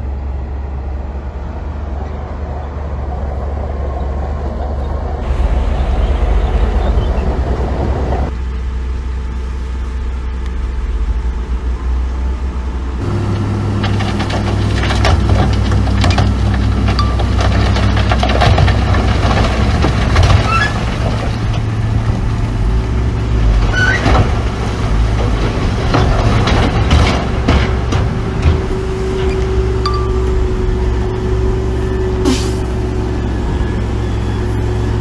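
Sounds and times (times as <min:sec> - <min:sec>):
heavy machinery diesel engines: 0:00.0 - 0:35.0.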